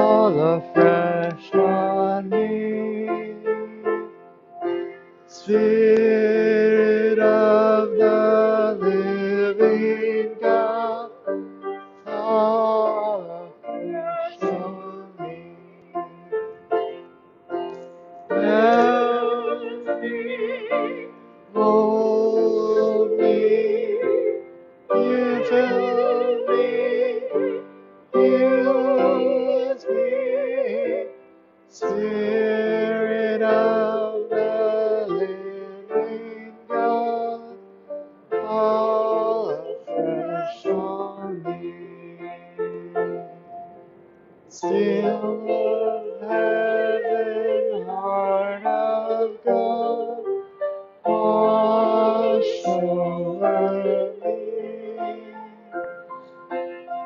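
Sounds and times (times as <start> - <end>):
keyboard accompaniment: 0.0 - 57.0
person singing a hymn: 0.0 - 57.0.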